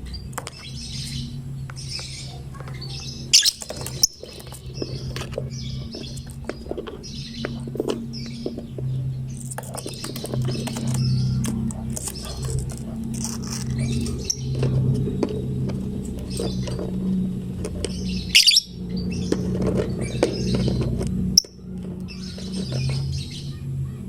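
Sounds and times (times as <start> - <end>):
bird chirping: 0.0 - 24.0
steady low hum: 0.0 - 24.0.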